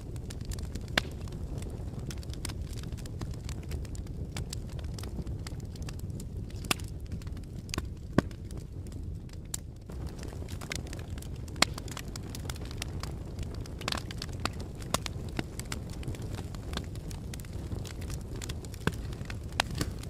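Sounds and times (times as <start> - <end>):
fire popping and snapping: 0.0 - 20.0
low rumble of flames: 0.0 - 20.0.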